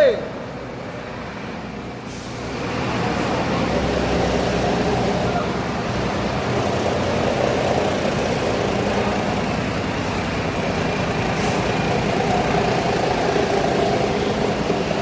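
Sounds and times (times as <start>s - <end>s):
diesel coach engine running: 1.6s - 15.0s.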